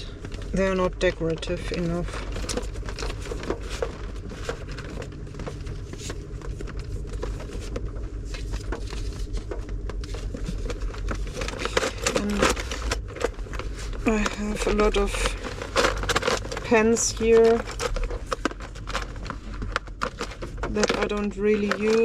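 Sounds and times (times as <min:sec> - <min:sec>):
low steady hum: 0:00.0 - 0:22.0
paper rustling: 0:00.0 - 0:22.0.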